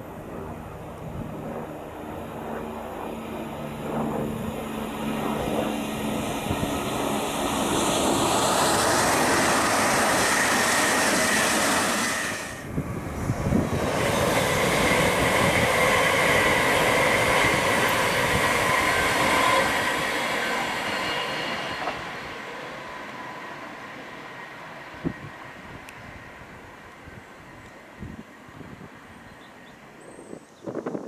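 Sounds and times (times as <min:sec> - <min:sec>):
train passing at speed: 0:00.0 - 0:31.0.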